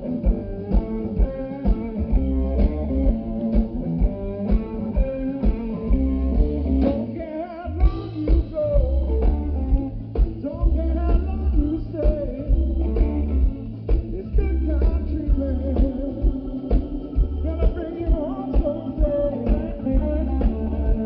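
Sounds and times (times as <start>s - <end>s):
blues band playing: 0.0s - 21.0s
electric guitar: 0.0s - 21.0s.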